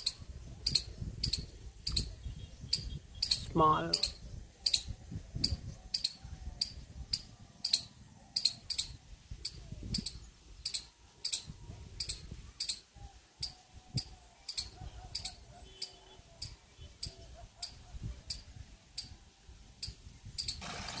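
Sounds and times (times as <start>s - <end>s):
insect chirping: 0.0s - 2.1s, 2.7s - 19.2s, 19.8s - 20.6s.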